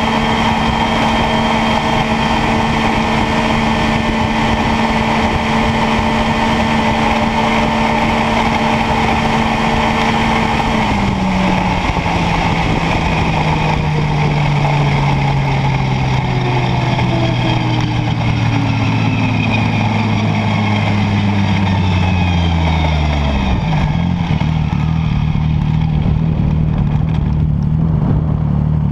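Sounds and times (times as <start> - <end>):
snowmobile engine winding down: 0.0 - 28.9
wind noise: 0.0 - 28.9.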